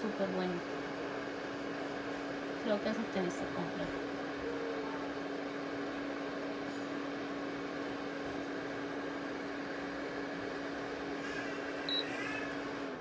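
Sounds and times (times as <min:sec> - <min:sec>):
heater fan whirring: 0:00.0 - 0:13.0.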